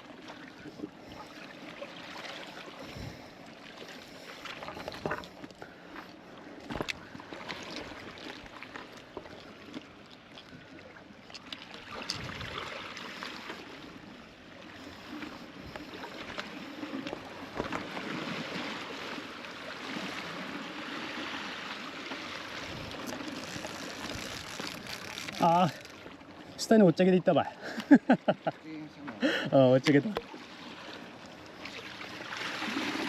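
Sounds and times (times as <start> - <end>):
sea water sloshing: 0.0 - 33.0.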